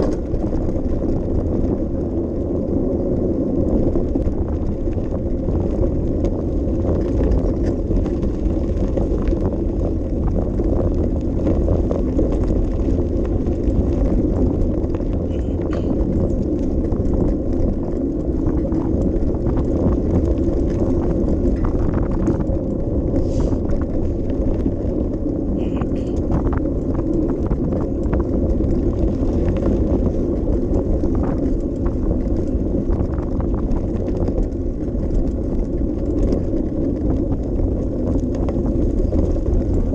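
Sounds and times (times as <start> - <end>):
bike clicks and rattles: 0.0 - 39.9
tyres rolling along a path: 0.0 - 39.9
wind on microphone: 0.0 - 39.9.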